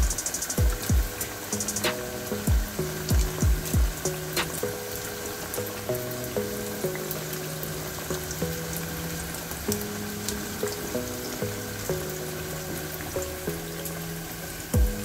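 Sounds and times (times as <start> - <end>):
background music of held notes: 0.0 - 15.0.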